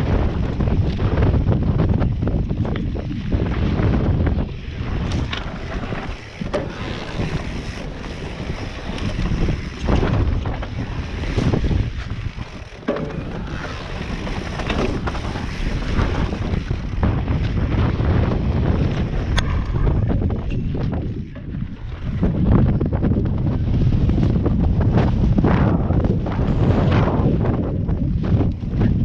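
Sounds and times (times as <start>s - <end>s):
bike knocking and rattling: 0.0s - 29.0s
bike tyres rumbling on trail: 0.0s - 29.0s
wind buffeting microphone: 0.0s - 29.0s.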